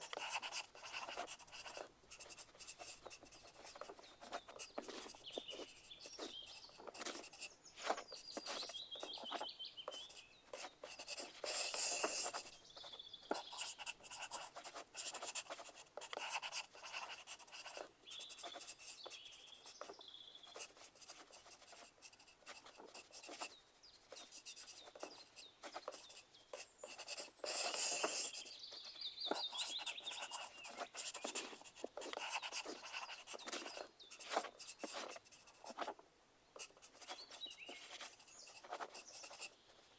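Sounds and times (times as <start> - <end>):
pencil scratching on paper: 0.0 - 28.7, 29.3 - 36.0, 36.6 - 39.6.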